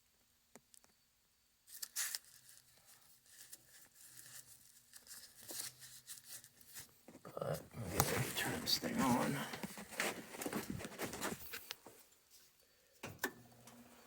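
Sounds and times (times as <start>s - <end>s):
rustling and handling noises: 1.7s - 13.1s.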